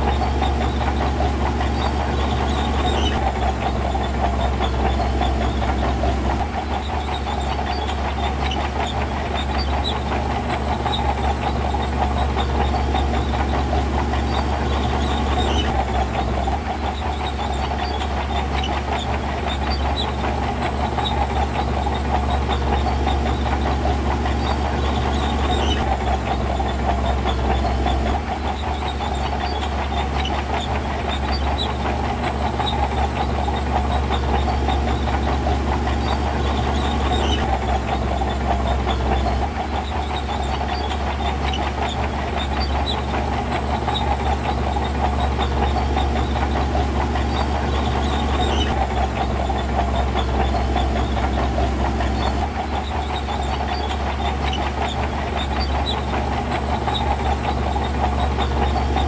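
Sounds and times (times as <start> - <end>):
heavy diesel machinery rumbling: 0.0 - 59.0.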